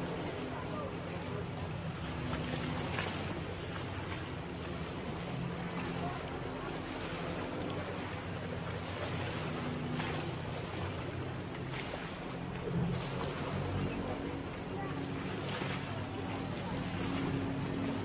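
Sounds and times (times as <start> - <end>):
distant motorboat engine: 0.0 - 18.0.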